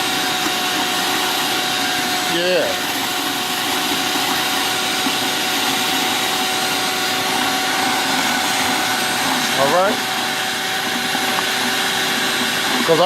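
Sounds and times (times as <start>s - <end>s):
hose sucking up liquid and air: 0.0s - 13.0s
wet vacuum motor whine: 0.0s - 13.0s.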